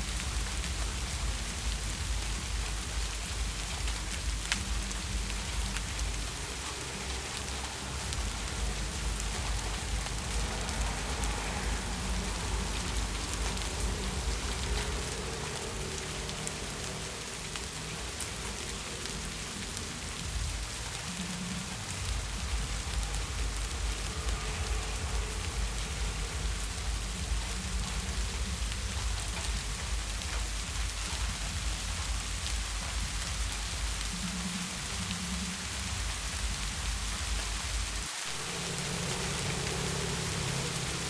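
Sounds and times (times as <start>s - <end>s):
heavy rain falling: 0.0s - 41.0s
low rumble: 0.0s - 41.0s.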